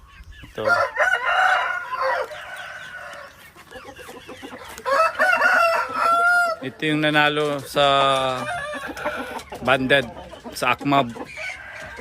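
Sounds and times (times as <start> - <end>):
roosters crowing and clucking: 0.0 - 12.0.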